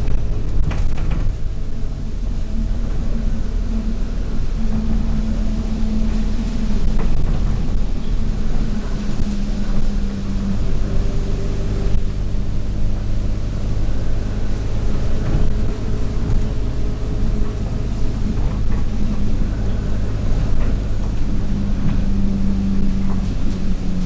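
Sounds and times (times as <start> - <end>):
bus diesel engine running: 0.0 - 24.0
high-pitched turbo whine: 0.0 - 24.0.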